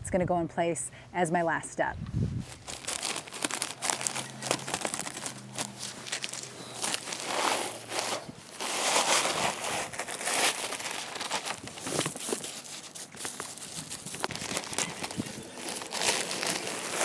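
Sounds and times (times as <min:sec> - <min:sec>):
plastic bag crinkling: 0:02.4 - 0:17.0
gravel pouring out of a bag: 0:02.5 - 0:17.0.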